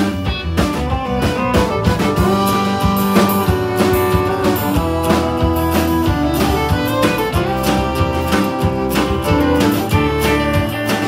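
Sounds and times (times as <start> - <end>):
country band playing: 0.0 - 11.0
drum kit beat: 0.0 - 11.0
electric guitar: 0.0 - 11.0
strummed acoustic guitar: 0.0 - 11.0.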